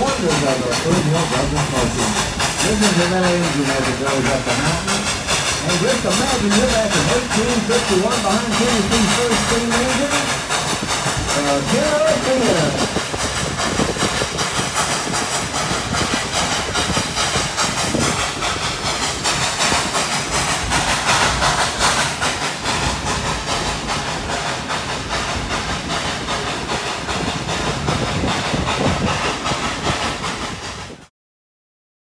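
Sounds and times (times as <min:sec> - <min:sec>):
steam locomotive rushing and hissing: 0:00.0 - 0:31.1
train cars rattling on track: 0:00.0 - 0:31.1.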